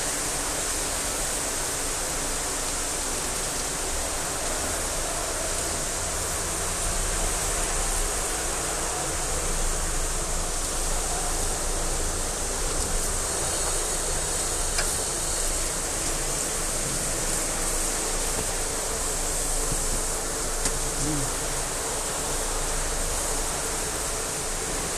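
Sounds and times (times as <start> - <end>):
shower water hissing: 0.0 - 24.9.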